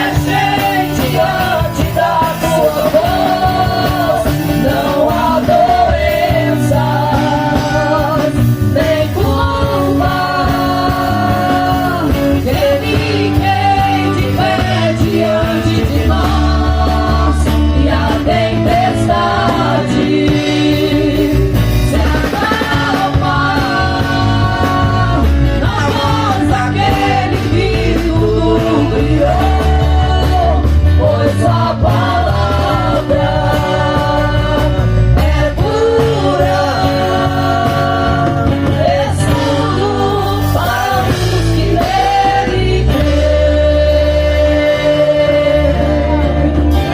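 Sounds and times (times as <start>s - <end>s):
band accompaniment: 0.0s - 46.9s.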